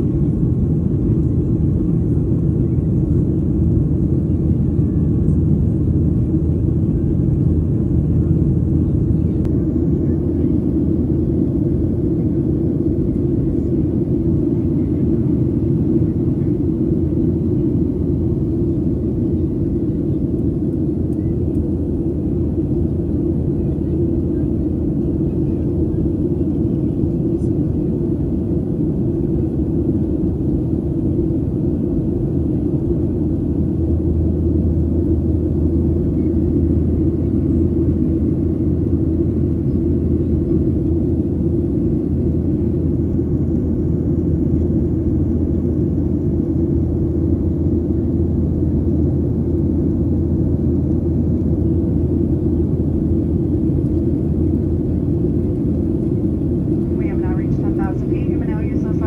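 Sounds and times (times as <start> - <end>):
airplane engines rumbling in cabin: 0.0 - 59.0.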